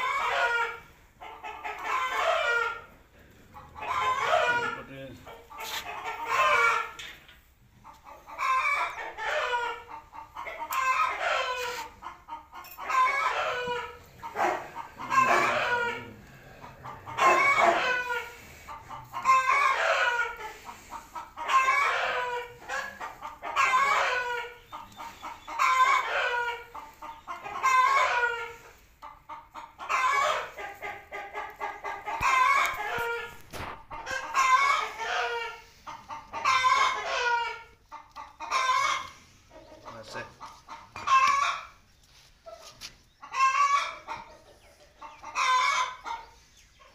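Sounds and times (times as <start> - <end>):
roosters crowing: 0.0 - 3.0, 3.7 - 7.0, 8.1 - 28.8, 29.6 - 37.8, 38.4 - 40.2, 41.0 - 41.8, 42.8 - 44.3, 45.2 - 46.3.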